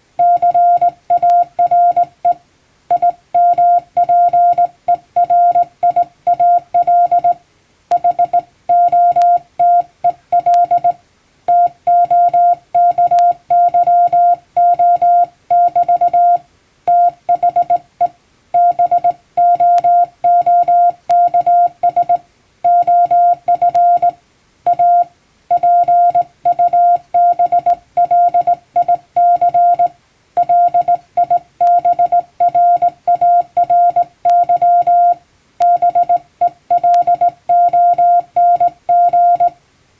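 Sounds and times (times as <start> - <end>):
morse code beeping: 0.2 - 39.6.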